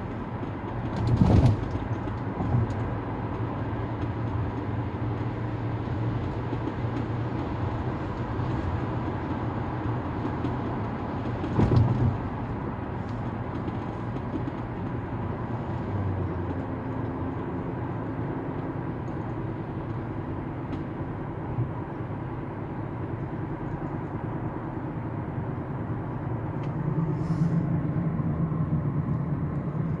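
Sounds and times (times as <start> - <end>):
moving vehicle running noise: 0.0 - 30.0.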